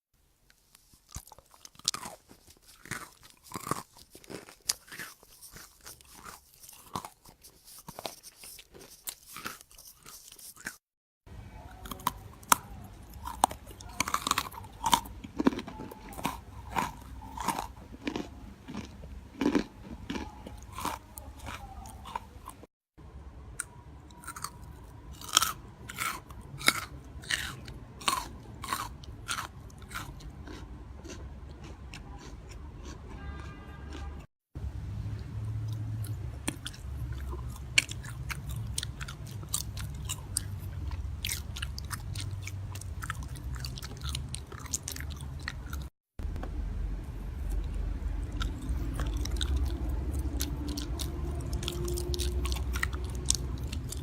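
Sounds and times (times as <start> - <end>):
chewing crunchy food: 0.5 - 10.9, 11.7 - 22.7, 23.6 - 34.3, 35.1 - 45.9, 47.3 - 54.0.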